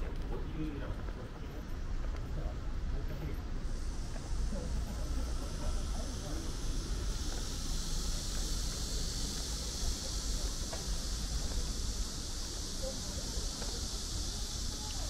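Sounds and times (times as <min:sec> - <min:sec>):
stream hiss: 0:01.7 - 0:15.0.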